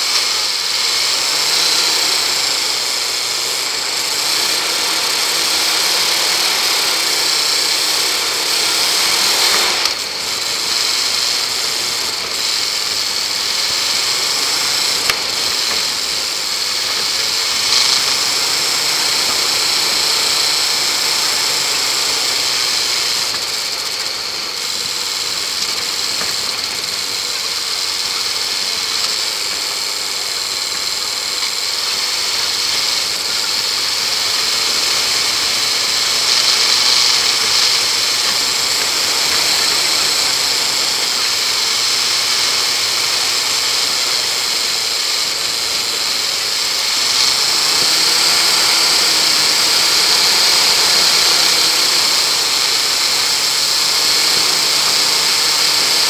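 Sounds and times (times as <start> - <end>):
car engine running: 0.0 - 56.0
steady hiss: 0.0 - 56.0.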